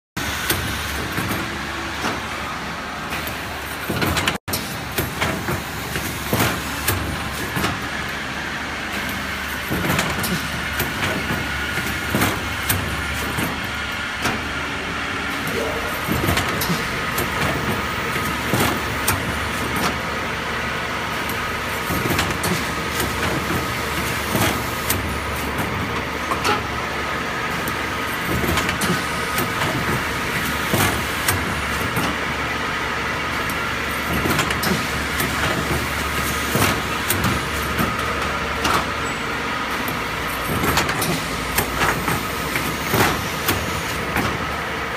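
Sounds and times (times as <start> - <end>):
machine motor hum: 0.2 - 44.9.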